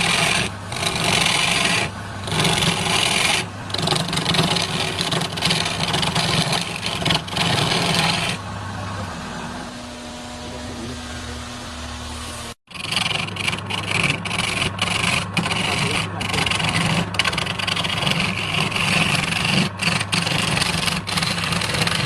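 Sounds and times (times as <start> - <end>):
power tool rasping wood: 0.0 - 8.4, 12.7 - 22.0
motor humming: 0.0 - 22.0.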